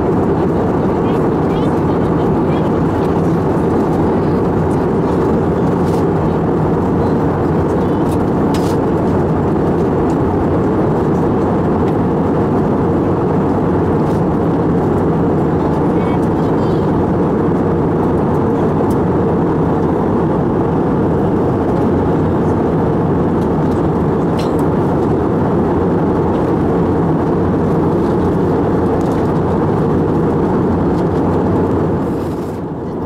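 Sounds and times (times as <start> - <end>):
airliner cabin noise: 0.0 - 33.0.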